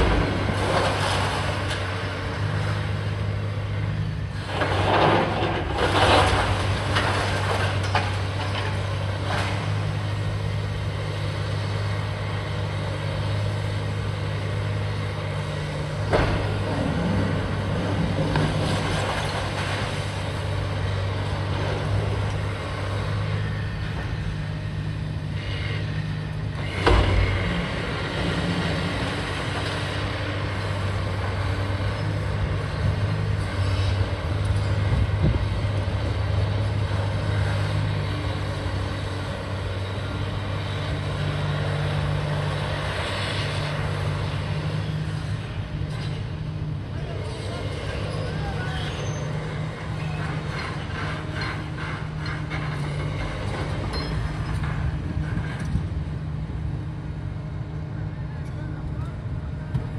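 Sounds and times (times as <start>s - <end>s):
heavy engine droning: 0.0s - 59.9s.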